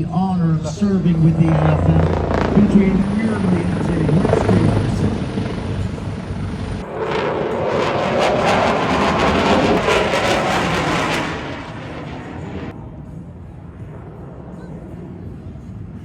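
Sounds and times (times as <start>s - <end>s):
aircraft engine roar: 0.0s - 16.0s.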